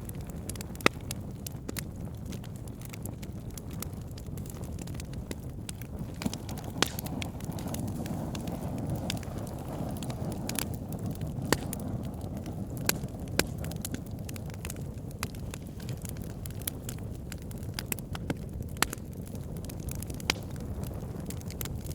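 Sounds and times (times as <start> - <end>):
flames rumbling and hissing: 0.0 - 21.9
logs crackling and snapping: 0.0 - 21.9.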